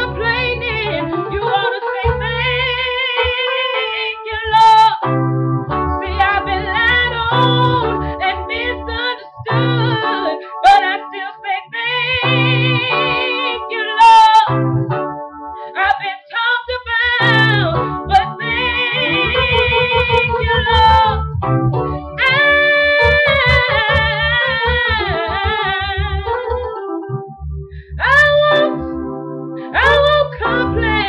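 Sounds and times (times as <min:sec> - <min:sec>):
woman singing gospel: 0:00.0 - 0:05.0, 0:06.0 - 0:14.5, 0:15.7 - 0:21.2, 0:22.2 - 0:26.4, 0:28.0 - 0:28.8, 0:29.6 - 0:31.0
keyboard accompaniment: 0:00.0 - 0:31.0.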